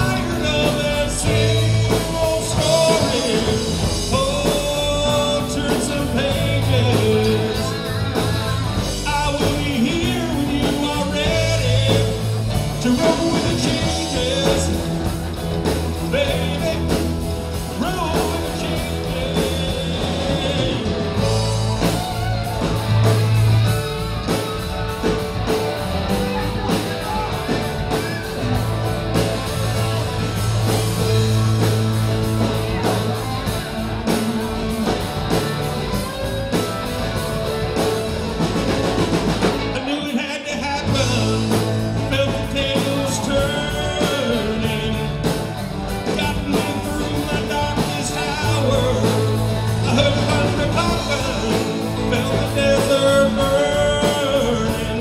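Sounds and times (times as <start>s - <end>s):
person singing: 0.0s - 23.4s, 24.3s - 55.0s
live rock band playing: 0.0s - 55.0s.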